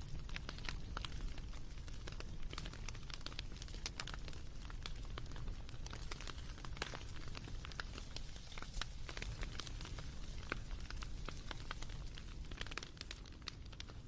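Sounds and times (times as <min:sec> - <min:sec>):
fire low rumble: 0:00.0 - 0:14.0
wood fire pops and snaps: 0:00.0 - 0:14.0.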